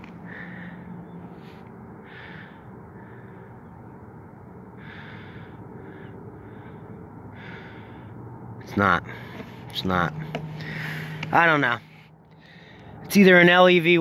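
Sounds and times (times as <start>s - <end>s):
man breathing: 0.0s - 9.7s, 10.4s - 11.3s, 11.9s - 13.1s.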